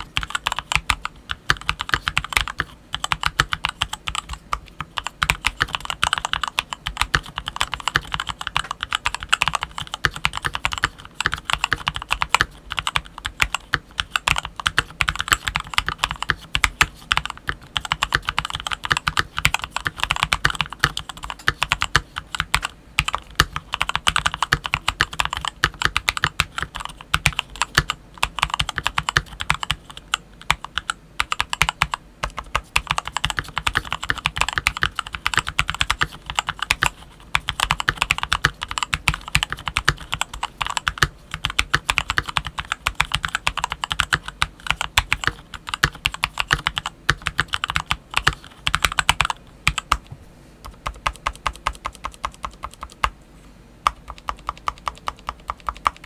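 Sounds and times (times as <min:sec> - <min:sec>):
mechanical keyboard typing: 0:00.0 - 0:53.2, 0:53.8 - 0:56.0.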